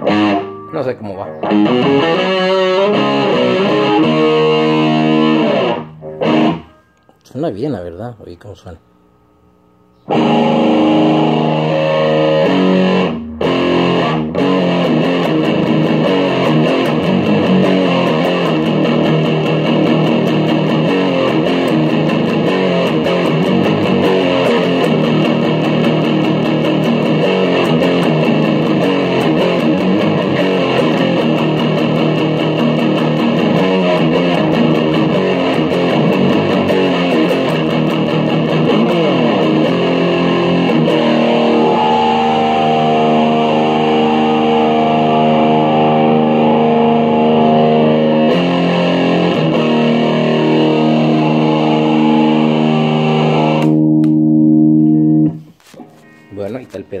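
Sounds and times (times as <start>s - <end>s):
distorted electric guitar: 0.0s - 8.0s, 8.8s - 57.0s.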